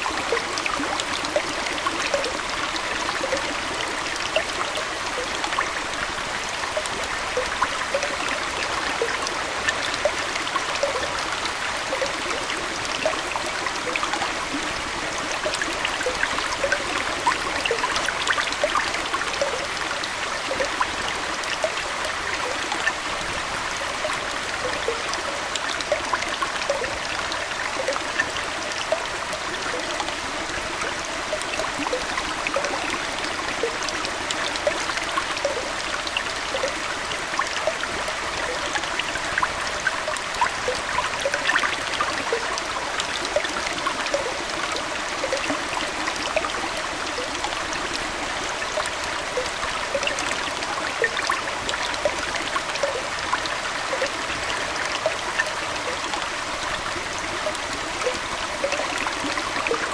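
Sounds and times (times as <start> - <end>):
aquarium water trickling: 0.0 - 59.9
bubbly plinks: 0.0 - 59.9.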